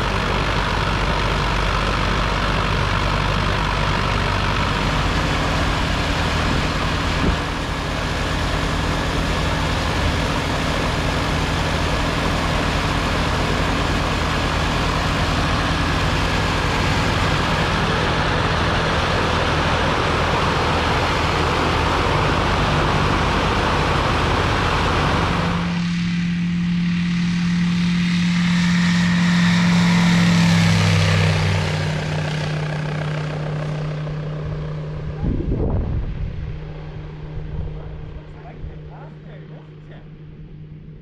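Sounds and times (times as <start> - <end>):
propeller engine running: 0.0 - 41.0.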